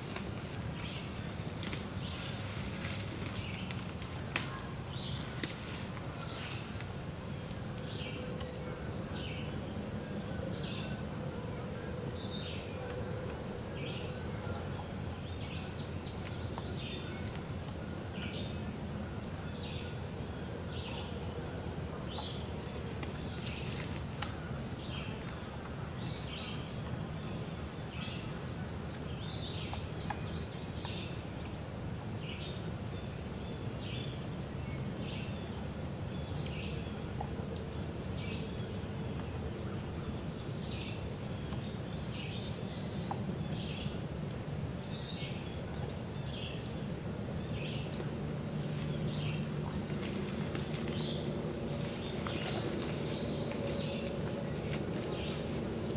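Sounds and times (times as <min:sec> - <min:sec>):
insect drone: 0:00.0 - 0:55.9.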